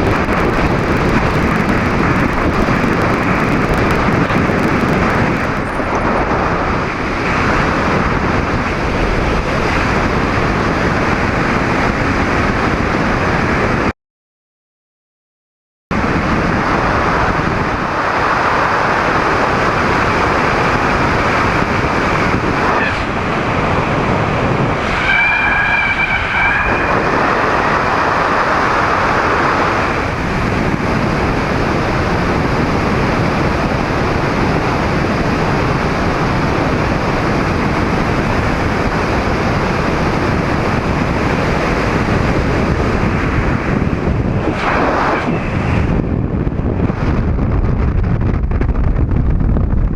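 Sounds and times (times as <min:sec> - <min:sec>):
wind rushing over microphone: 0:00.0 - 0:13.9, 0:15.9 - 0:49.9.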